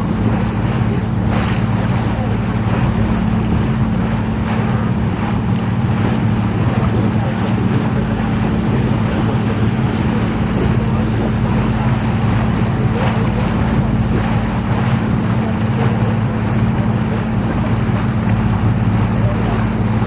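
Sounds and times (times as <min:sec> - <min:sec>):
boat motor humming: 0:00.0 - 0:20.0
water rushing: 0:00.0 - 0:20.0
wind: 0:00.0 - 0:20.0.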